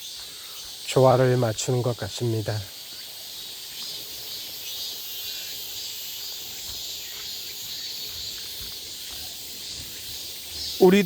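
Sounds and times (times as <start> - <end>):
cicadas buzzing: 0.0 - 11.0
crickets chirring: 0.0 - 11.0.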